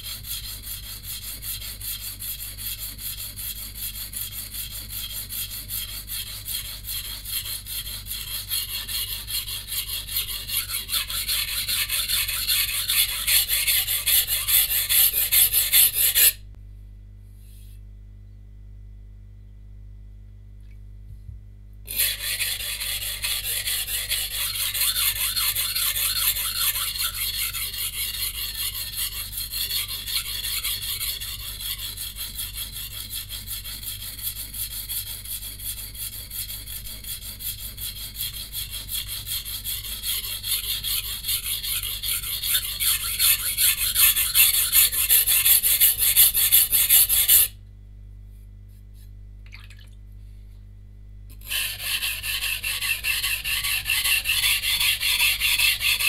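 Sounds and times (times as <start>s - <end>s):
knife scraping on whetstone: 0.0s - 16.4s, 21.9s - 47.5s, 51.4s - 56.0s.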